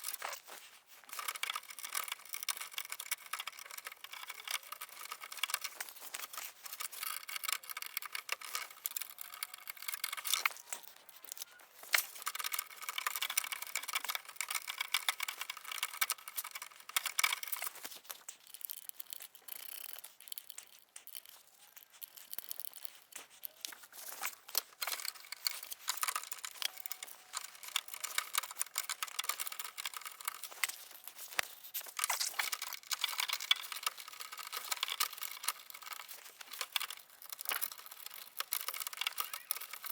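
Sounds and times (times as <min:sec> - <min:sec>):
small bolts clicking and scraping: 0:00.0 - 0:39.9.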